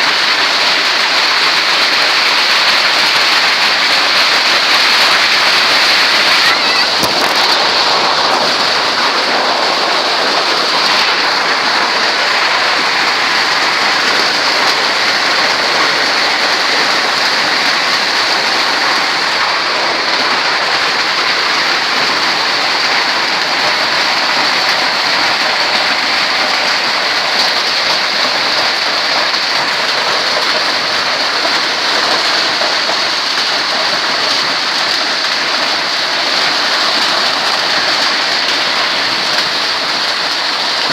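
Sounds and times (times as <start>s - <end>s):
hail pelting down: 0.0s - 40.9s.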